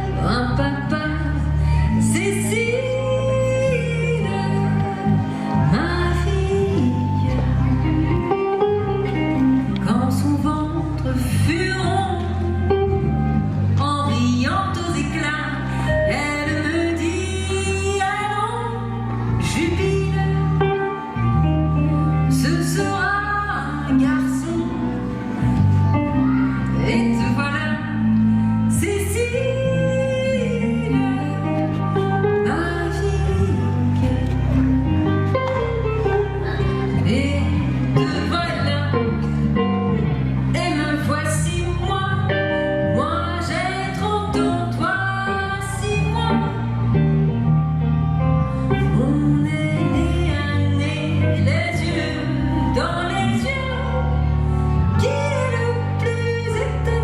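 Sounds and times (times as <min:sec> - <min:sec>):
woman singing: 0:00.0 - 0:13.2, 0:13.8 - 0:46.9, 0:48.7 - 0:57.0
guitar: 0:00.0 - 0:57.0
held bass notes: 0:00.0 - 0:57.0
instrumental accompaniment: 0:00.0 - 0:57.0.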